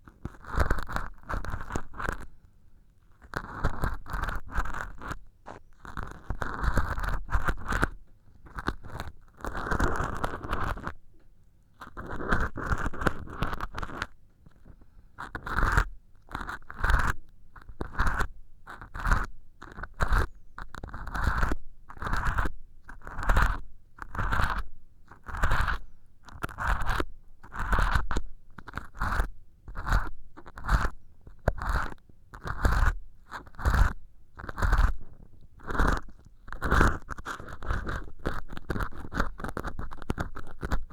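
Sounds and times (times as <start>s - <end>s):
ear pick scraping sponge: 0.1s - 2.3s, 3.2s - 11.0s, 11.8s - 40.9s.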